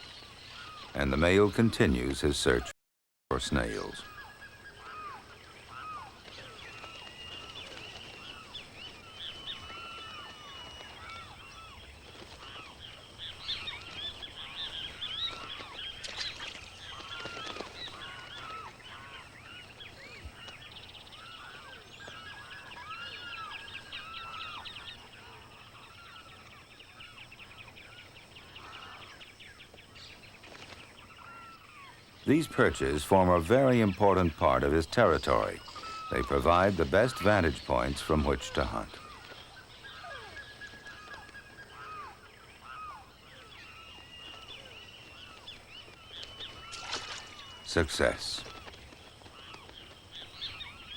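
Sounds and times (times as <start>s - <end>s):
chorus of wetland birds calling: 0.0s - 2.7s, 3.3s - 50.9s.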